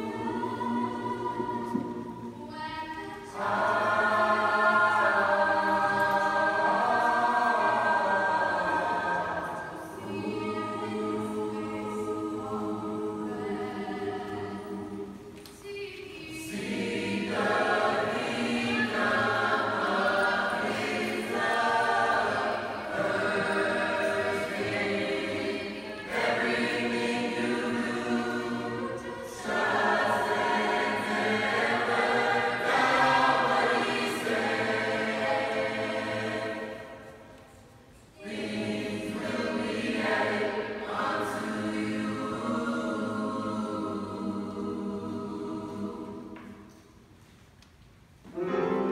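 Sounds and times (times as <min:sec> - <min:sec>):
choir singing in a church: 0:00.0 - 0:48.9.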